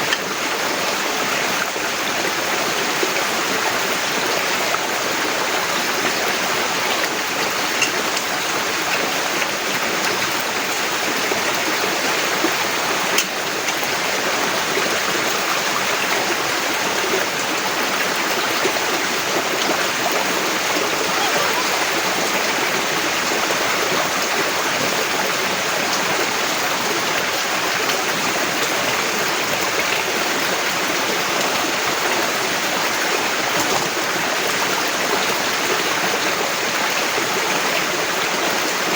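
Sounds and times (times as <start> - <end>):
heavy rain falling: 3.0 - 38.2.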